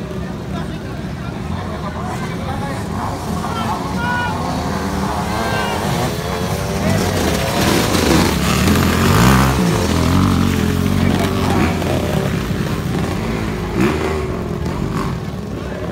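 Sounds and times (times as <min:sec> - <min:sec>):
crowd talking: 0:00.0 - 0:15.9
dirt bike engines revving: 0:00.0 - 0:15.9.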